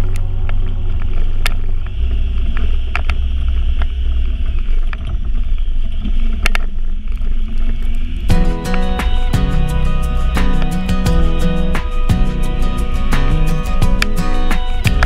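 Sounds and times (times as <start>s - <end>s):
vehicle engine low rumble: 0.0s - 14.1s.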